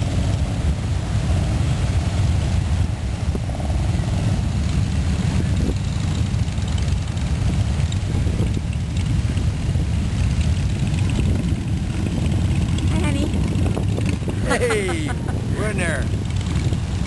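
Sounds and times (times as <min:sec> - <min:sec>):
motorcycles riding past: 0:00.0 - 0:17.0.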